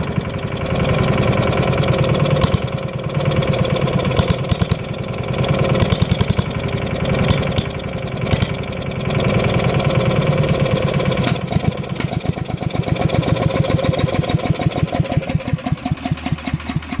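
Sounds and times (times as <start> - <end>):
wood chipper engine running unevenly: 0.0 - 17.0.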